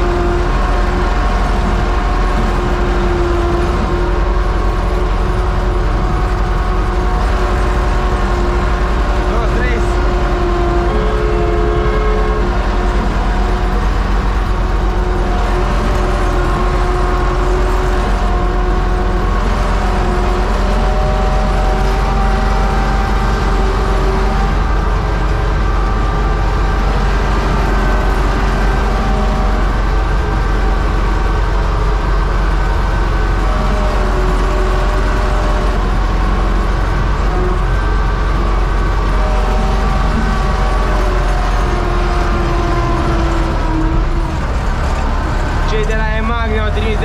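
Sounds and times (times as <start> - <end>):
tractor diesel engine under load: 0.0 - 47.0.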